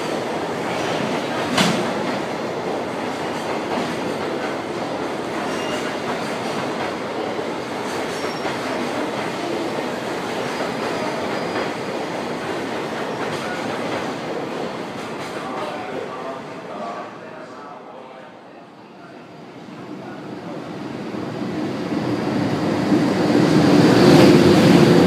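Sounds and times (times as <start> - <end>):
train wheels on rails: 0.0 - 16.5, 20.4 - 25.0.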